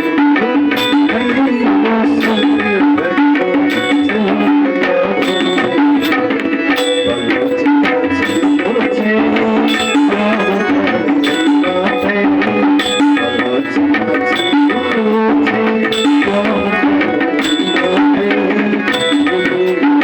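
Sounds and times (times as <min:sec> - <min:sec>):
sustained melody line: 0:00.0 - 0:20.0
tabla playing a rhythm: 0:00.0 - 0:20.0.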